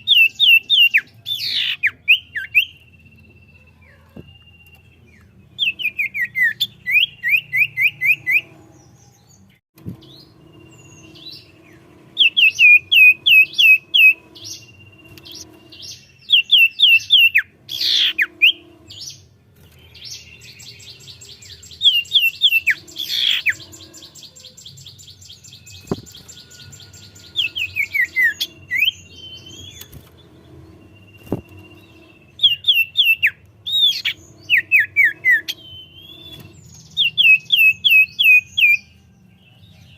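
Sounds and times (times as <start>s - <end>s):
bird buzzy trill: 0.0s - 9.0s, 9.8s - 39.0s
bird whistling song: 0.0s - 39.9s.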